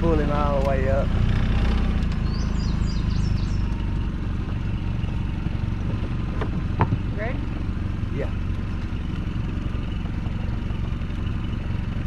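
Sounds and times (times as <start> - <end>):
outboard motor idling: 0.0 - 1.1, 2.1 - 12.0.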